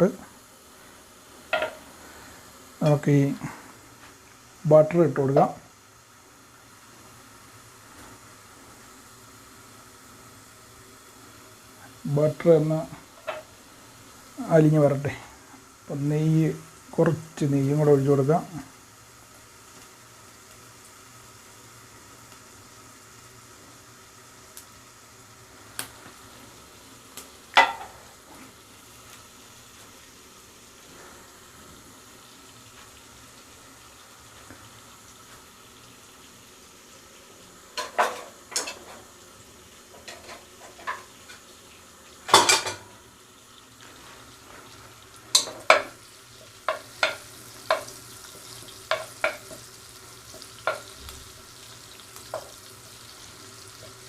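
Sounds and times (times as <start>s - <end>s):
faint sizzle: 0.0s - 54.0s.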